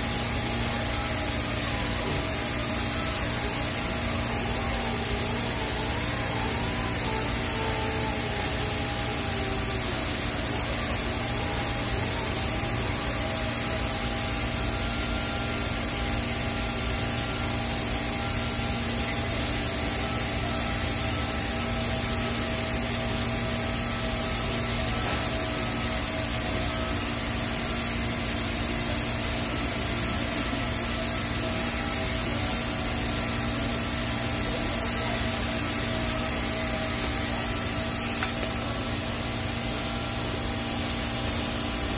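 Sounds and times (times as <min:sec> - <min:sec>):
welding arc hissing: 0:00.0 - 0:41.9.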